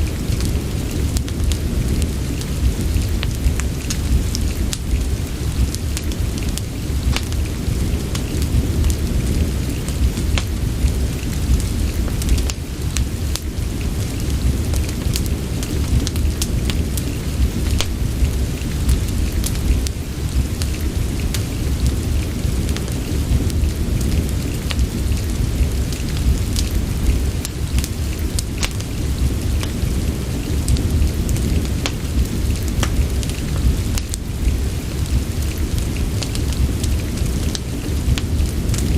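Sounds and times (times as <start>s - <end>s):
deep low rumble: 0.0s - 38.9s
steady rain: 0.0s - 38.9s
wood fire crackling: 0.0s - 38.9s.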